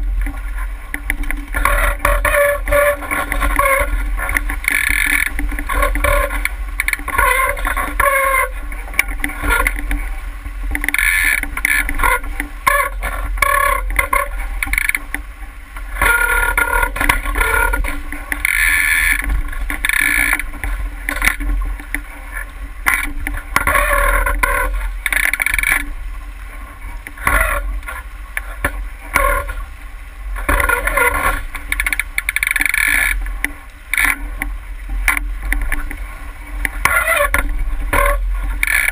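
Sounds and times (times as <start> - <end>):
constant low rumble: 0.0 - 38.9
water splashing against a hull: 0.0 - 38.9.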